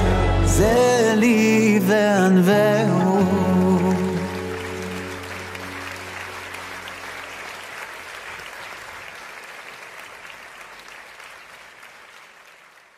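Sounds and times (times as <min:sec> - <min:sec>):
audience clapping: 0:02.4 - 0:12.9.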